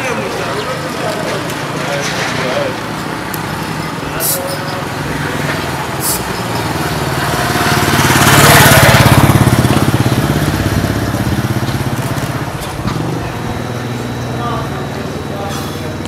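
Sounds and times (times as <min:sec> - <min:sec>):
vehicle engine passing by: 0:00.2 - 0:15.2.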